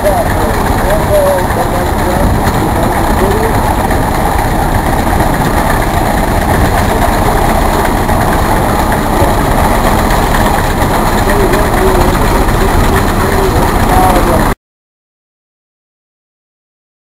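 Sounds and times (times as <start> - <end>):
tractor engine running loudly: 0.0 - 14.6.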